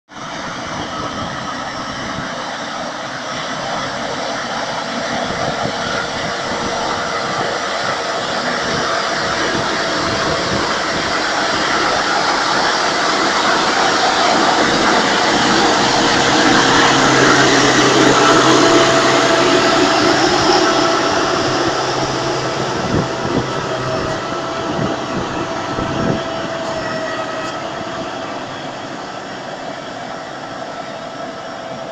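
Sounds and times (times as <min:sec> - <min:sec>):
tractor diesel engine running: 0:00.6 - 0:31.9.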